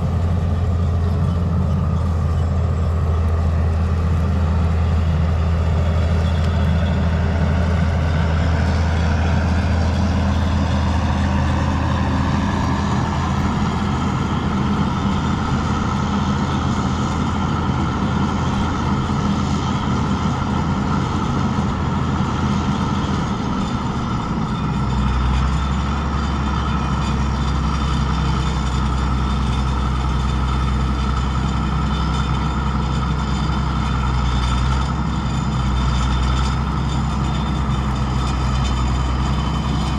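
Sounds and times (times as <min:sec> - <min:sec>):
combine engine hum: 0:00.0 - 0:39.9.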